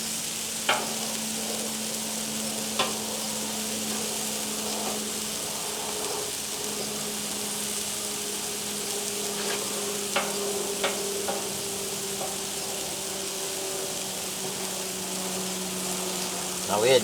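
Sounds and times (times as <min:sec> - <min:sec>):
tomatoes sizzling on a griddle: 0:00.0 - 0:17.0.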